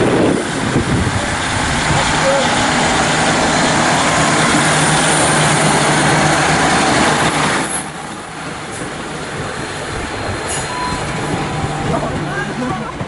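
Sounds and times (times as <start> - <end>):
diesel train engine humming: 0.0 - 13.0
train rolling over track: 0.0 - 13.0.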